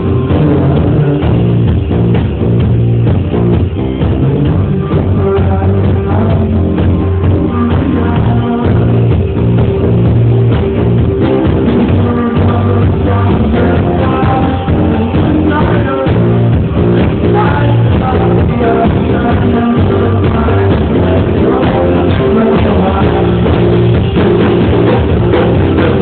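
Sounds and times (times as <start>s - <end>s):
person singing: 0.0s - 1.7s, 4.1s - 26.0s
guitar: 0.0s - 26.0s
live band playing: 0.0s - 26.0s.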